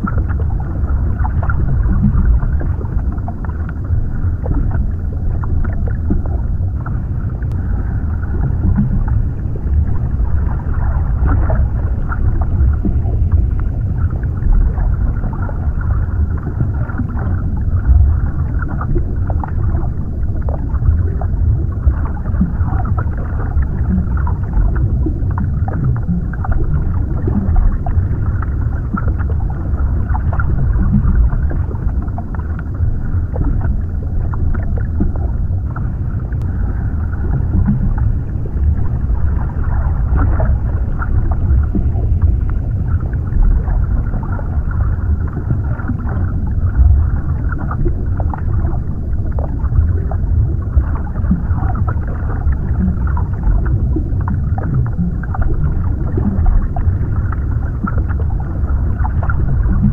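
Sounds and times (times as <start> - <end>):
underwater rumble: 0.0 - 59.9.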